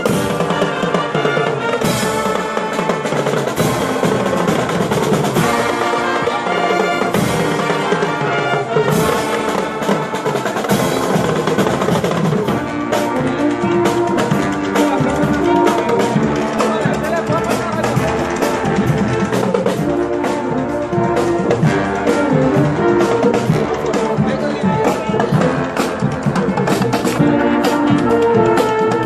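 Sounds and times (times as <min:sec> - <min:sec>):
marching band playing: 0:00.0 - 0:29.0
bass drum beat: 0:03.4 - 0:29.0.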